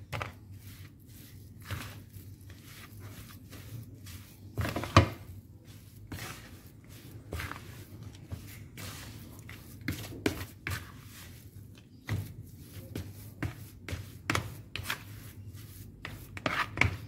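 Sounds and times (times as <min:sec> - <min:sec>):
paddle scraping dough in bowl: 0:00.0 - 0:17.0.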